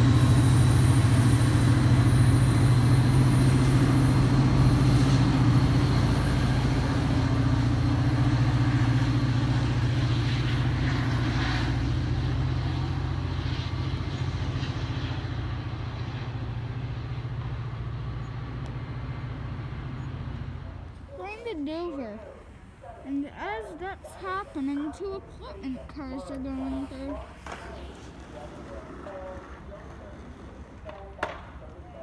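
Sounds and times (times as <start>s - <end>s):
rolling rail noise: 0.0s - 32.0s
train low hum: 0.0s - 32.0s.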